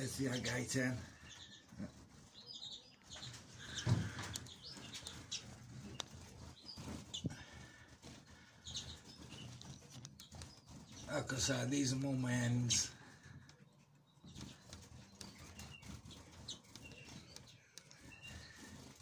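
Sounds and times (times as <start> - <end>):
birds fluttering wings: 0.0 - 13.5, 14.2 - 19.0.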